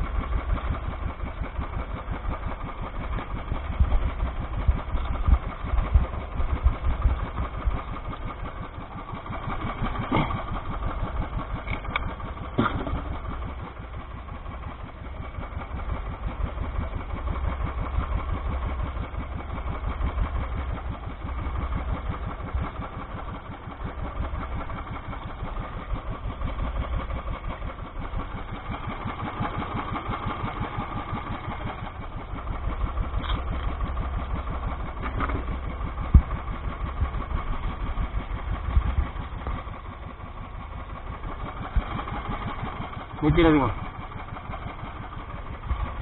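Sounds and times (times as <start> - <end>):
boat engine idling: 0.0 - 46.0.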